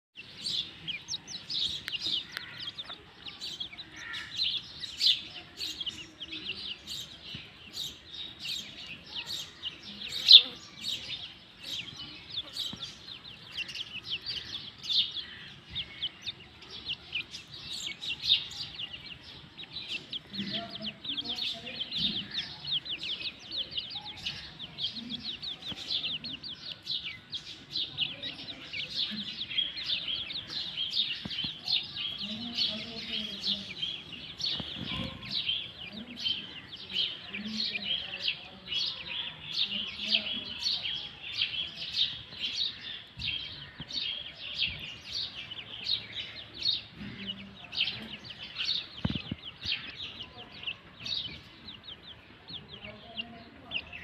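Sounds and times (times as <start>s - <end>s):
chicks peeping: 0.2s - 54.0s.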